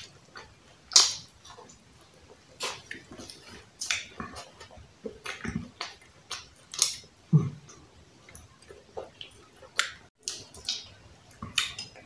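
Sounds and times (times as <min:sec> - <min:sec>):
mouth chewing and lip smacks: 0:00.0 - 0:12.0.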